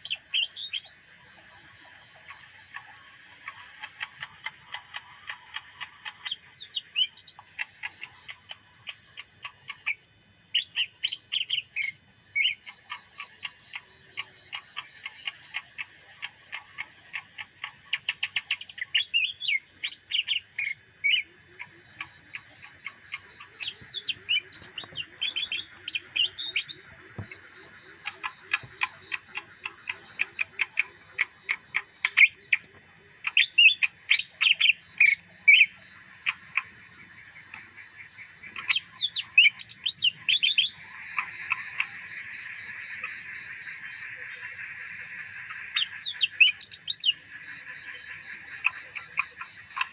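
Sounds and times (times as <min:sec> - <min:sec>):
bird singing varied song: 0:00.0 - 0:49.9.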